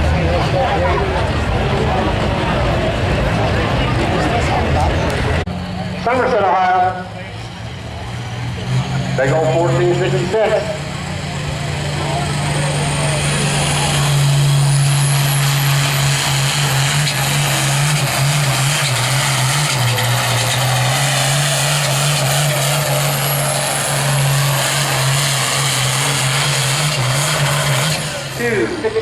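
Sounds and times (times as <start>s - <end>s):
engine running flat out: 0.0s - 29.0s.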